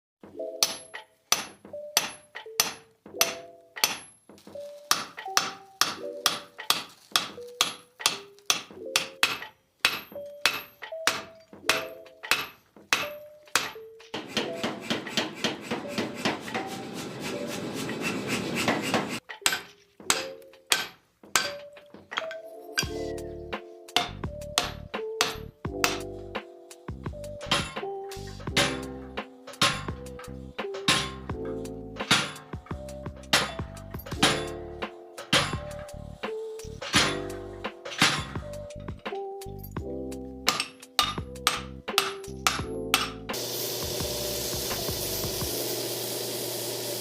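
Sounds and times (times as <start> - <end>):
hammer striking steel on anvil: 0.5 - 4.2, 4.9 - 16.8, 18.6 - 23.1, 24.0 - 26.2, 27.4 - 39.2, 40.5 - 45.3.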